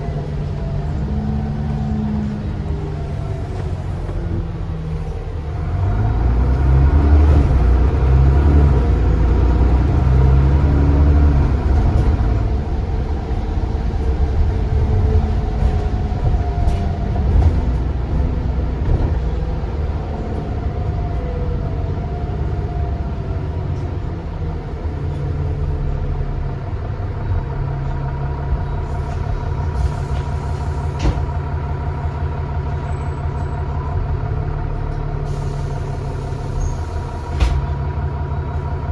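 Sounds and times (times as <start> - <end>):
bus diesel engine: 0.0 - 38.9.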